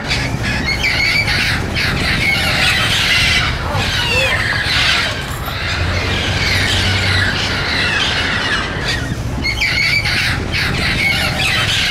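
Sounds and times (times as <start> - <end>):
parrots squawking and screeching: 0.0 - 11.9.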